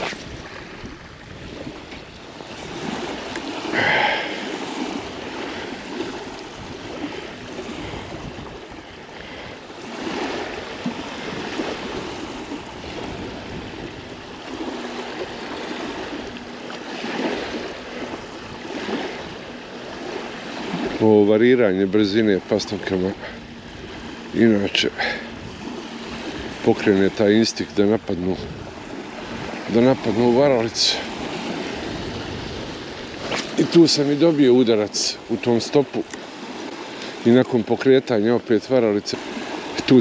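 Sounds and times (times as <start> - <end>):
waves washing over pebbles: 0.0 - 40.0.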